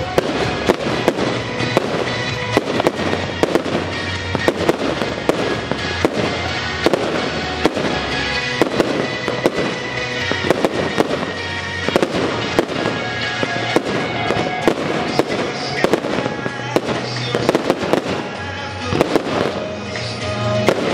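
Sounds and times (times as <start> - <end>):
firework shells bursting: 0.0 - 20.9
music: 0.0 - 20.9.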